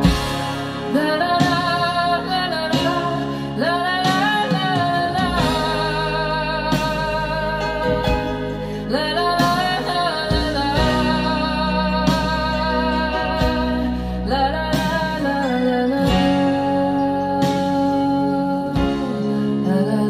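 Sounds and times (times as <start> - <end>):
guitar accompaniment: 0.0 - 20.0.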